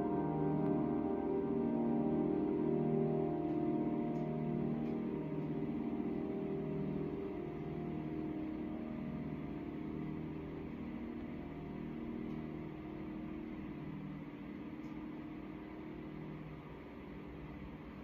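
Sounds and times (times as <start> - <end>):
piano chord ringing: 0.0 - 18.0.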